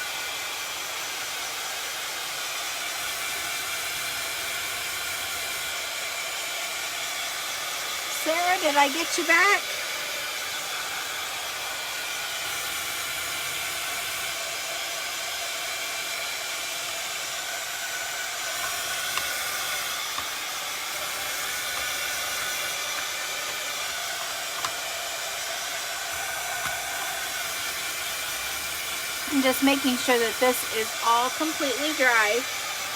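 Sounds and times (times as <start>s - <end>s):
heat tool hot-air whoosh: 0.0s - 32.9s.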